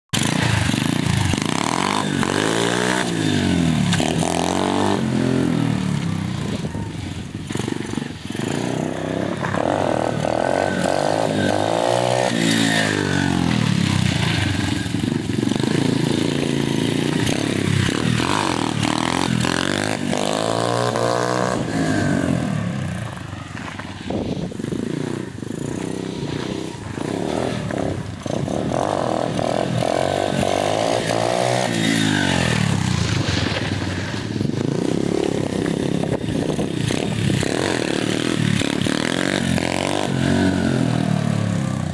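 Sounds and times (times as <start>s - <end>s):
motorbike engine revving: 0.2s - 41.9s.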